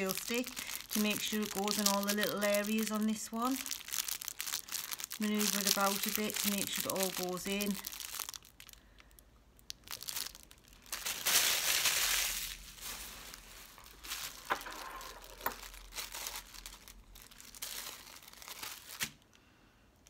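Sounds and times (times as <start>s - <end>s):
plastic packaging crinkling: 0.0s - 19.4s.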